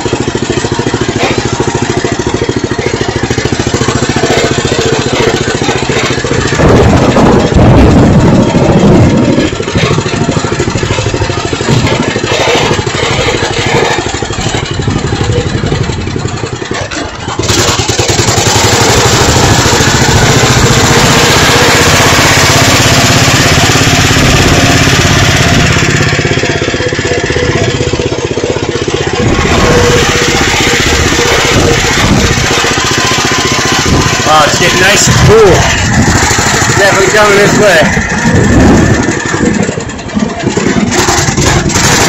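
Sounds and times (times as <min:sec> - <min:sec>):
small vehicle engine running: 0:00.0 - 0:42.0.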